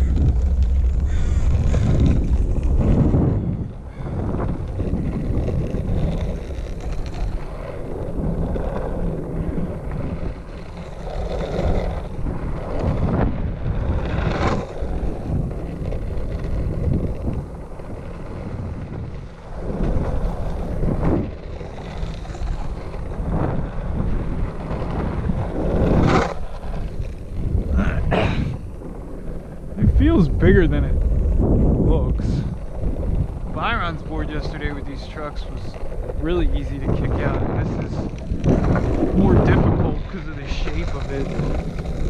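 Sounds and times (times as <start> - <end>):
skateboard wheels rolling on concrete: 0.0 - 42.0
wind buffeting microphone: 0.0 - 42.0.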